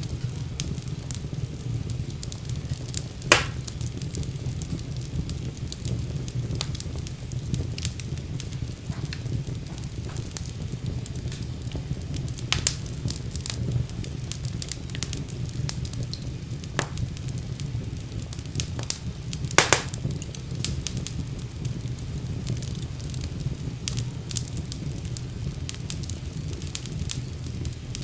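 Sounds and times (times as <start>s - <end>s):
fire crackling and popping: 0.0s - 28.0s
low rumble of flames: 0.0s - 28.0s.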